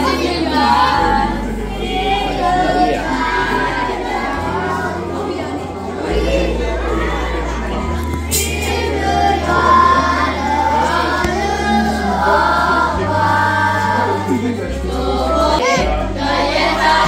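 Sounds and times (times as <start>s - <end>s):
long held bass notes: 0.0s - 17.0s
person singing: 0.0s - 17.0s.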